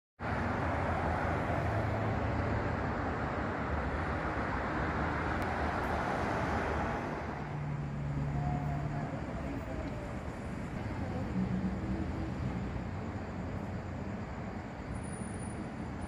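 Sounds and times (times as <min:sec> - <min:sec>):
road traffic: 0:00.2 - 0:16.0.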